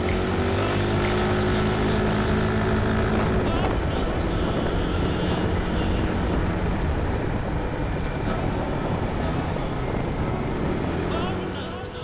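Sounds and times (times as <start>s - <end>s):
road and wind noise: 0.0s - 12.0s
scooter engine: 0.0s - 12.0s.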